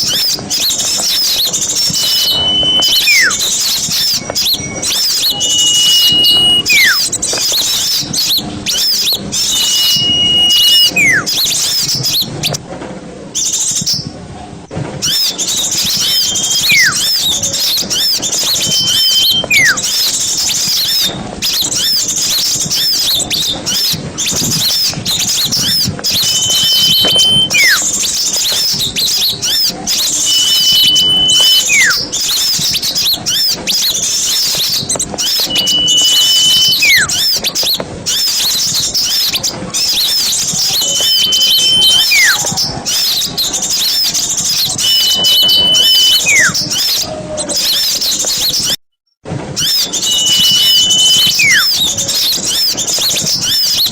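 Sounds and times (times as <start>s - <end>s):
bird whistle gliding down: 0.0s - 12.6s, 15.0s - 48.8s, 49.6s - 53.9s
small birds chirping and chattering: 0.0s - 12.6s, 13.4s - 14.2s, 15.0s - 48.8s, 49.6s - 53.9s.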